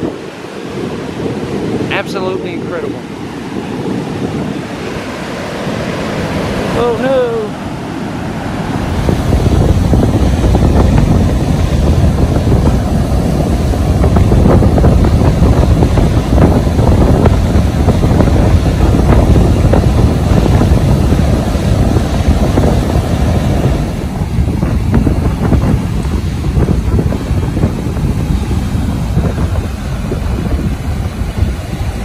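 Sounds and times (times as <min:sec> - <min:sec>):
breaking surf: 0:00.0 - 0:32.0
storm wind buffeting microphone: 0:00.0 - 0:32.0.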